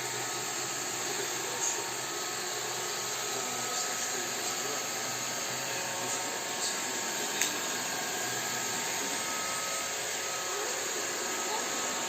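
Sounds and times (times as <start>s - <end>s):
robot vacuum cleaner running: 0.0s - 12.0s.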